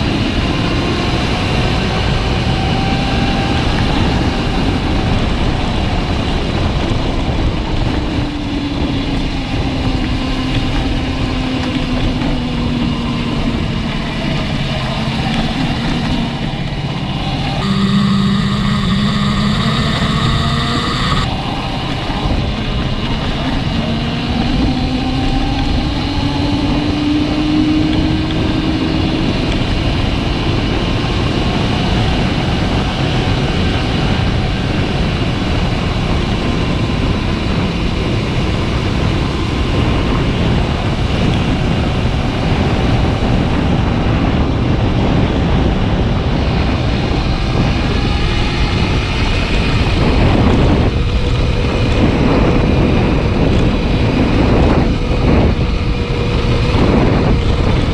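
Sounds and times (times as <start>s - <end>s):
motorcycle engine: 0.0s - 57.9s
wind rushing over microphone: 0.0s - 57.9s.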